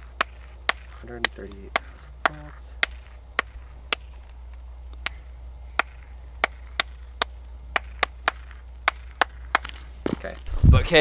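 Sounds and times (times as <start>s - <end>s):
sharp hand clicks: 0.2s - 9.8s.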